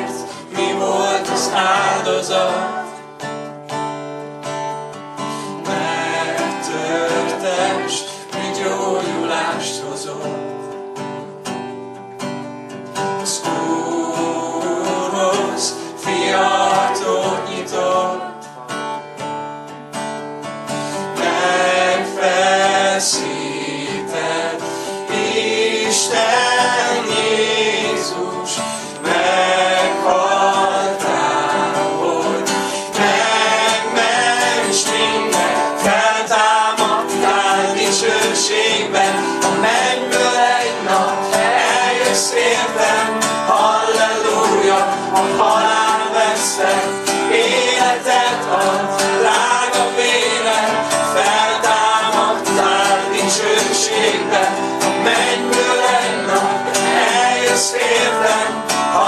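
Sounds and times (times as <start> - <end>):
man singing: 0.0 - 3.0, 5.6 - 10.6, 13.2 - 18.8, 25.1 - 59.0
strummed acoustic guitar: 0.0 - 59.0.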